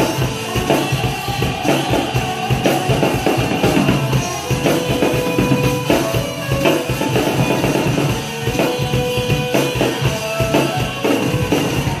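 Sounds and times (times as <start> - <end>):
drum kit beat: 0.0 - 12.0
recorded rock song: 0.0 - 12.0.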